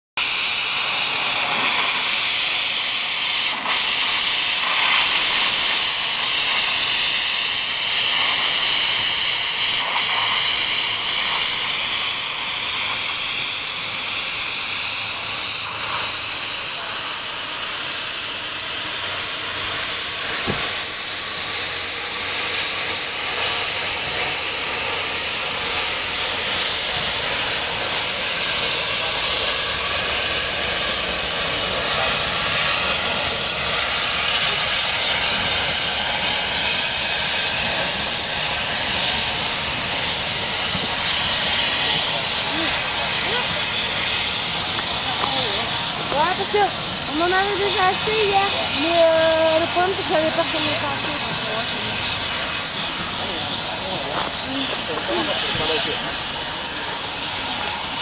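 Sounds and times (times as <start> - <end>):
steam hissing from locomotive: 0.2 - 58.0.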